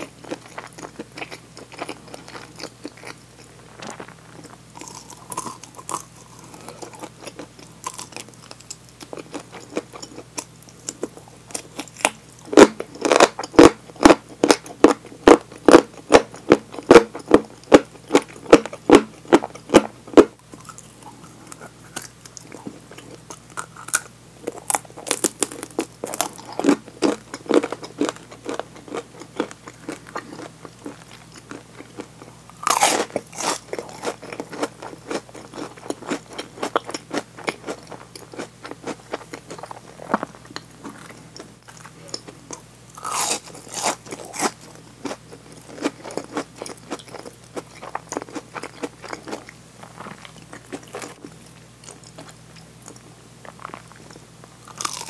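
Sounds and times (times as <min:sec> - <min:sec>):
crunchy chewing of fried chicken: 0:00.0 - 0:55.0.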